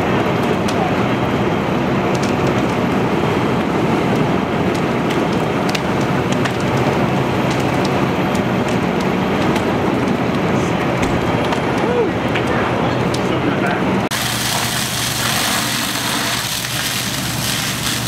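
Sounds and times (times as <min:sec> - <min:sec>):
fire crackling and popping: 0:00.0 - 0:13.4, 0:14.0 - 0:18.0
building fire rushing: 0:00.0 - 0:18.0.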